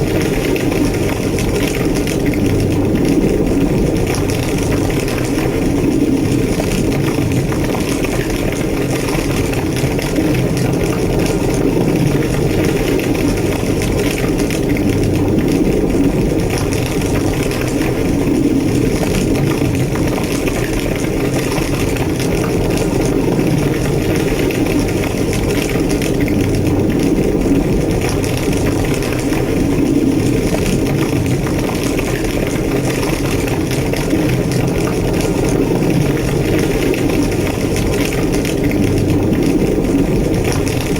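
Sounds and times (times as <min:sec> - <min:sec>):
large fire roaring and crackling: 0:00.0 - 0:40.9.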